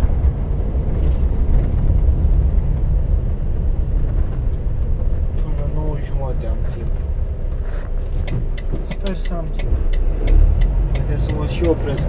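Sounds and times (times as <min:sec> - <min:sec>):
lorry engine rumble: 0:00.0 - 0:12.0
road noise: 0:00.0 - 0:12.0.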